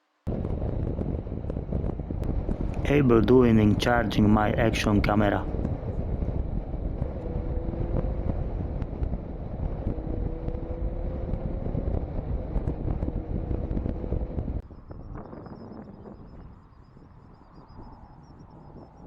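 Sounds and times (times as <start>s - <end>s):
motorcycle engine hum: 0.3s - 19.0s
wind buffeting microphone: 0.3s - 19.0s.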